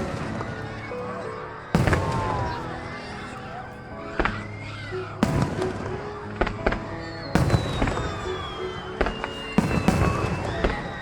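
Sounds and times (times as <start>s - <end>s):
fireworks bursting: 0.0s - 11.0s
show music with held notes: 0.0s - 11.0s.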